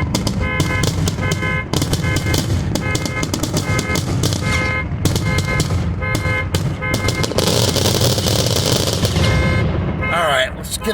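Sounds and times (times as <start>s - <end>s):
fireworks bangs: 0.0s - 10.9s
steady alarm tone: 0.0s - 10.9s.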